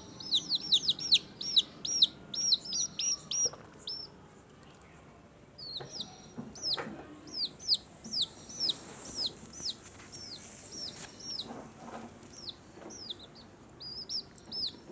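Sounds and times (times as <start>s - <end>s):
bird chirping: 0.0s - 4.2s, 5.6s - 14.9s.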